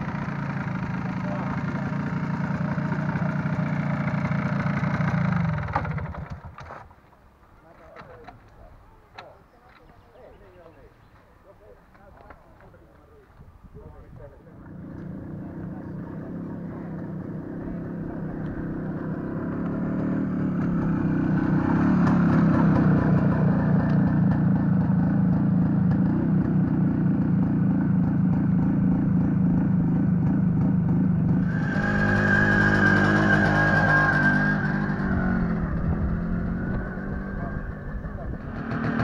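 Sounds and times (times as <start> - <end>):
motorcycle revving: 0.0 - 6.7, 14.4 - 39.0
motorcycle engines on gravel: 0.0 - 39.0.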